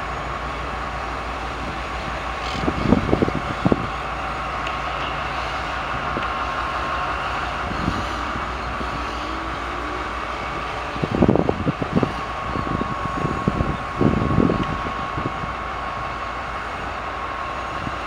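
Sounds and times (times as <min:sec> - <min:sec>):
diesel locomotive rumbling: 0:00.0 - 0:18.0.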